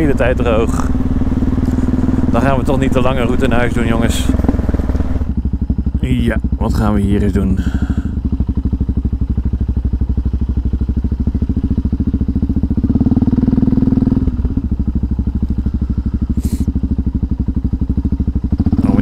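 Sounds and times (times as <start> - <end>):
motorcycle engine thumping: 0.0 - 6.8, 7.5 - 18.8.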